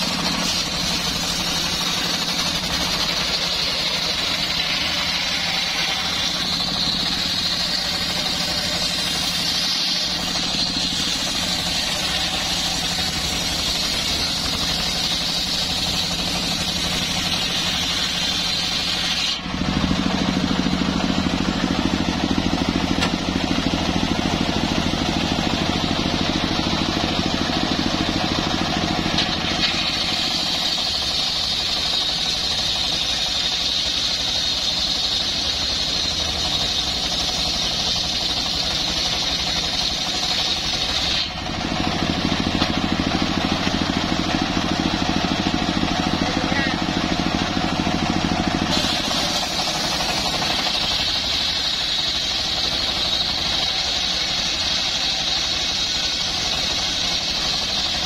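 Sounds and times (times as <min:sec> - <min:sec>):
circular saw cutting log: 0:00.0 - 0:58.0
saw running without cutting: 0:00.0 - 0:58.0.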